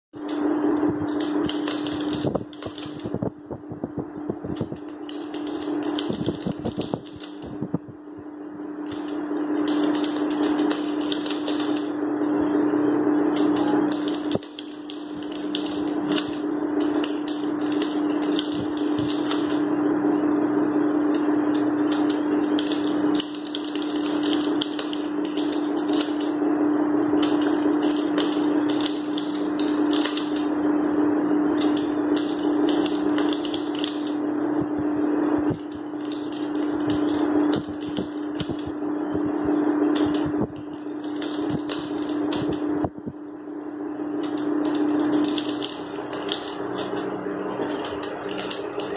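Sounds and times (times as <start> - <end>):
electric fan hum: 0.0 - 48.9.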